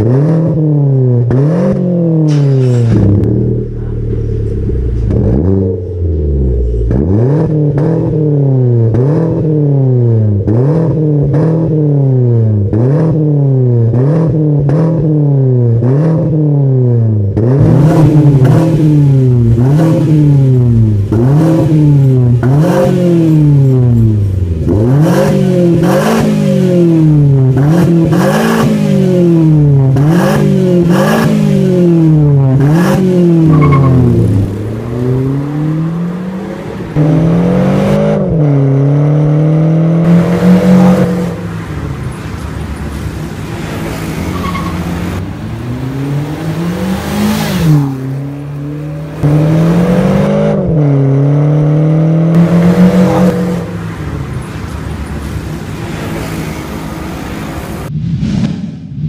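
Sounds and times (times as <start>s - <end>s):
car engine revving: 0.0s - 58.5s.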